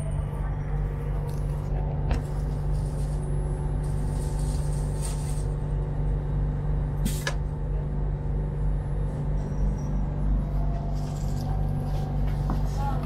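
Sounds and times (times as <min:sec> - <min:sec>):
train hum: 0:00.0 - 0:13.0.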